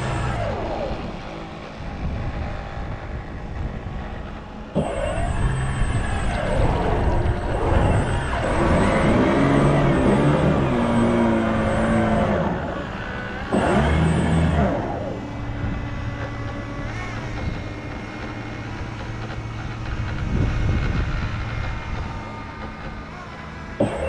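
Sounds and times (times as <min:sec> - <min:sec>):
model boat motors running: 0:00.0 - 0:24.0.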